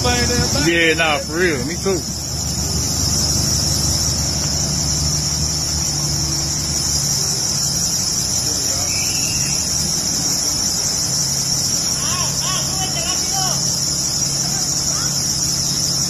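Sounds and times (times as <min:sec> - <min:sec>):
high-pitched insect drone: 0:00.0 - 0:16.0
vehicle engine idling: 0:00.0 - 0:16.0.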